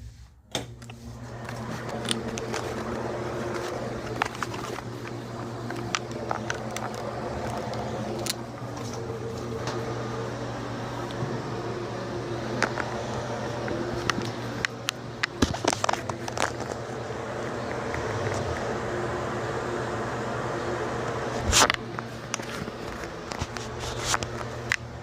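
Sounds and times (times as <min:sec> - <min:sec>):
vent fan humming: 0:00.0 - 0:25.0.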